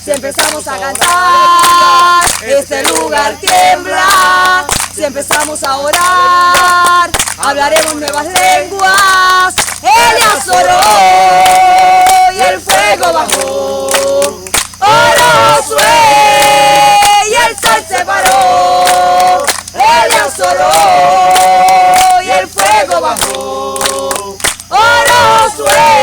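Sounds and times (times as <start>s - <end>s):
group of people singing: 0.0s - 26.0s.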